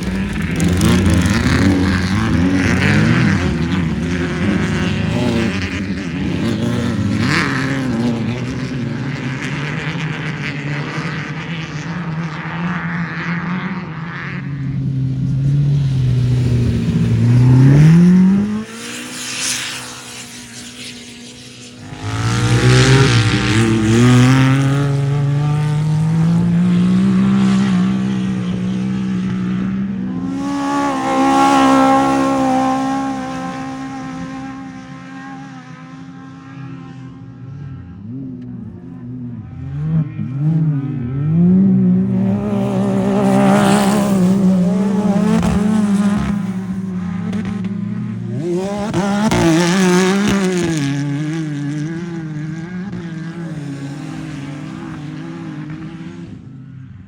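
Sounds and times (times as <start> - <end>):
off-road vehicle engines revving: 0.0 - 57.0.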